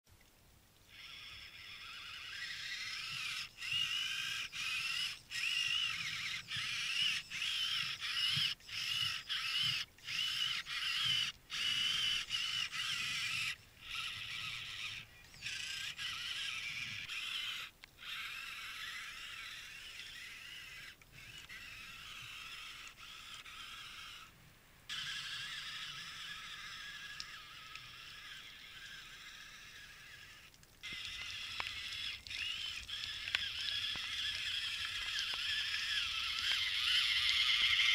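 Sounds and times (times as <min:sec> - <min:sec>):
electric motor and gear whine: 0:00.9 - 0:37.9.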